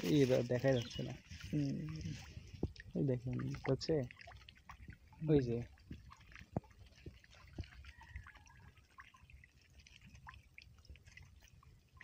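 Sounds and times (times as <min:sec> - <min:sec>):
ticks and drips from wet net: 0:00.0 - 0:12.0.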